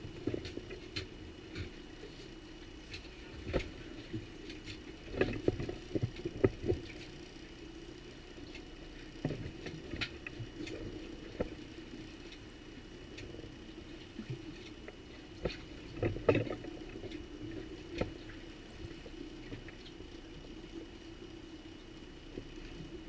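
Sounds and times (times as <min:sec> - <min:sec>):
outboard motor humming: 0:00.0 - 0:23.0.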